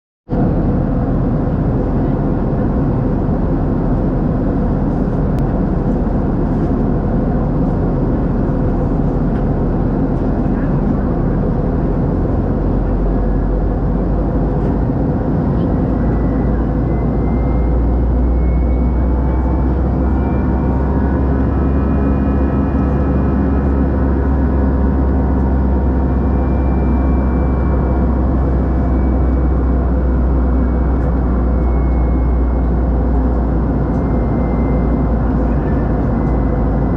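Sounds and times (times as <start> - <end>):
airplane cabin engine noise: 0.3 - 36.9
engine whine: 0.3 - 36.9.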